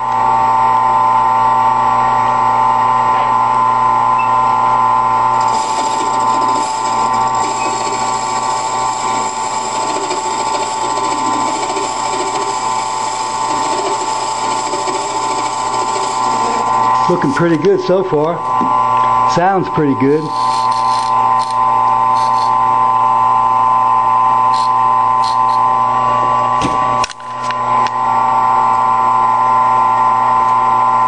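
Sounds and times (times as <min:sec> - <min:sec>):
lathe whining: 0:03.8 - 0:31.0.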